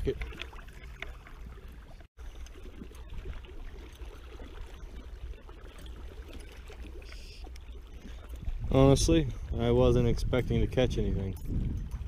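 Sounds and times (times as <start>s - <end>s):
low water rumble: 0.0s - 12.0s.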